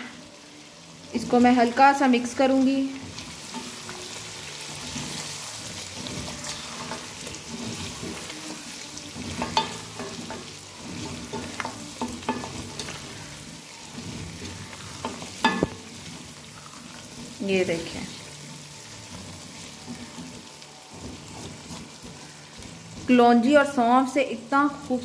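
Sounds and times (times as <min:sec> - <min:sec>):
chicken sizzling in oil: 0:00.0 - 0:25.0
spatula scraping metal pan: 0:03.1 - 0:23.2.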